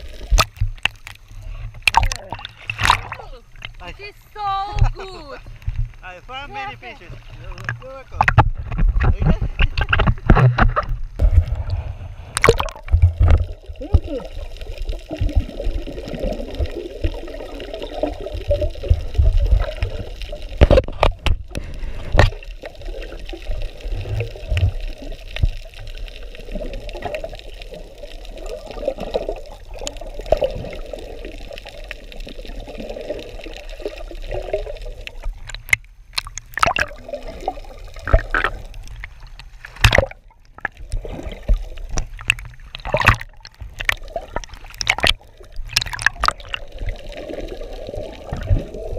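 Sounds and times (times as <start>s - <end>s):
muffled water sloshing: 0.0s - 48.9s.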